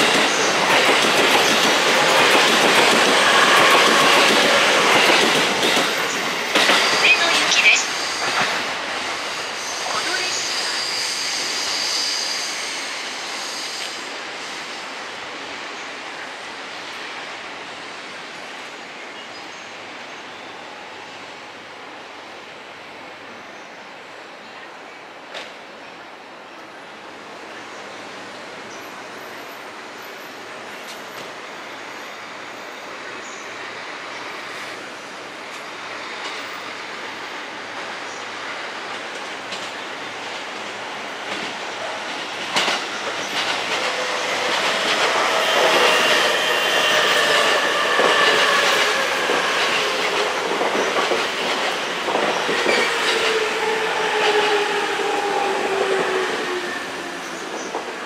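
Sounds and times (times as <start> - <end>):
train arriving: 0.0 - 58.0.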